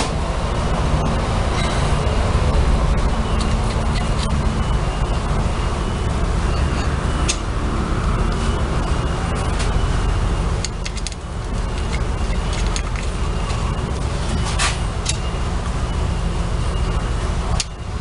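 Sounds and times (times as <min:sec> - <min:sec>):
low rumbling noise: 0:00.0 - 0:18.0.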